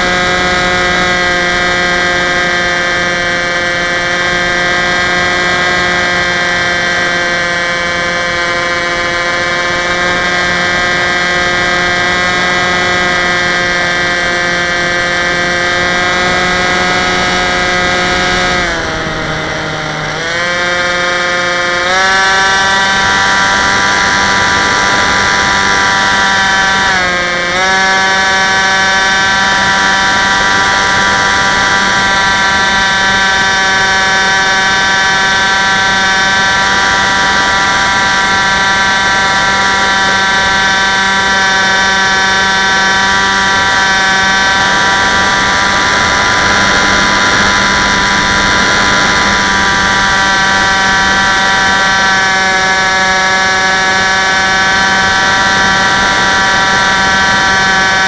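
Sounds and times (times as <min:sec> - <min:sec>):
model plane motor whining: 0:00.0 - 0:58.0.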